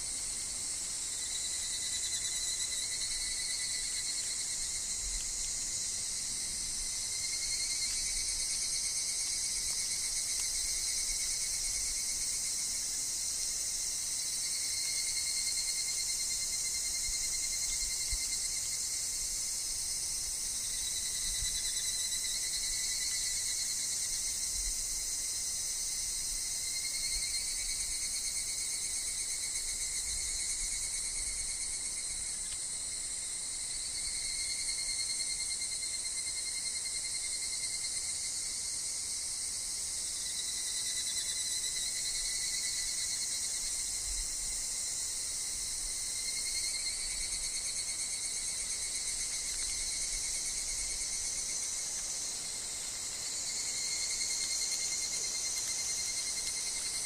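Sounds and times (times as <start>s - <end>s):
cicadas shrilling: 0.0s - 57.0s
low steady insect tone: 0.0s - 57.0s.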